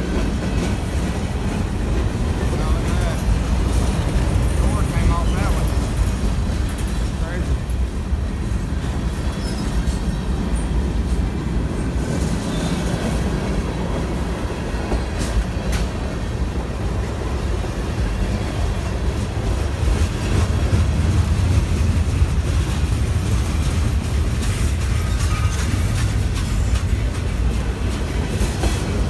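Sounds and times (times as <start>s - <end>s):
freight train rumbling: 0.0s - 29.0s.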